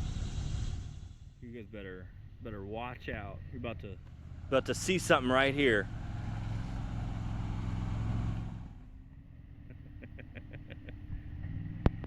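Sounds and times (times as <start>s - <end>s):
buggy engine running: 0.0s - 12.0s.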